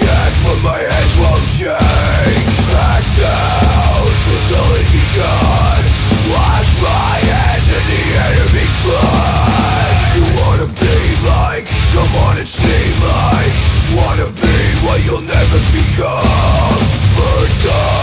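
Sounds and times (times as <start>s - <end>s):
live heavy metal band: 0.0s - 18.0s.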